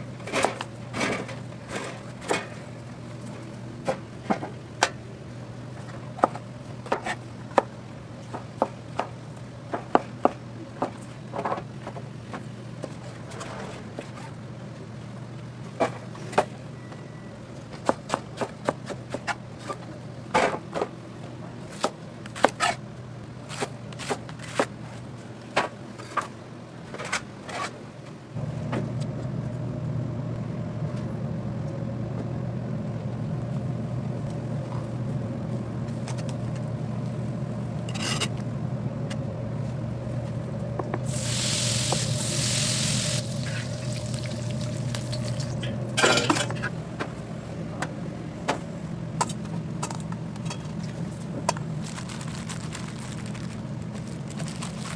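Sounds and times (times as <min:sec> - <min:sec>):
steady low hum: 0:00.0 - 0:27.1, 0:27.8 - 0:54.9.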